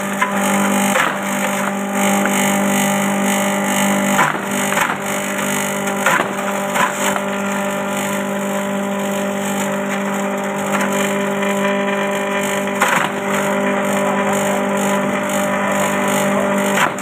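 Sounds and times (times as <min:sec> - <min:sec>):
crackling from cutter: 0:00.0 - 0:17.0
electric motor humming: 0:00.0 - 0:17.0.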